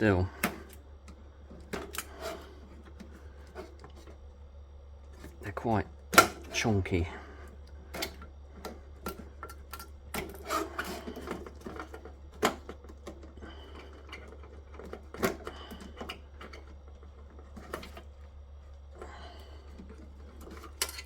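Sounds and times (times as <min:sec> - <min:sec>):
clicks and knocks of parts handled: 0:00.0 - 0:04.2, 0:07.5 - 0:21.0
steady low hum: 0:00.0 - 0:21.0.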